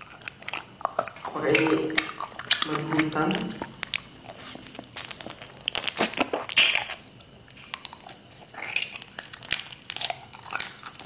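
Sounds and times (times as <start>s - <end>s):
crunching food: 0.0s - 11.0s
quiet chewing: 0.0s - 11.0s.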